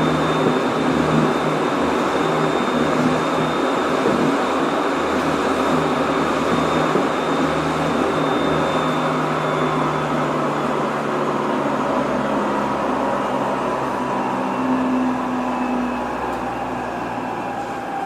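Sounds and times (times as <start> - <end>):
faint high whine: 0.0 - 18.0
train wheels rumbling on rail: 0.0 - 18.0.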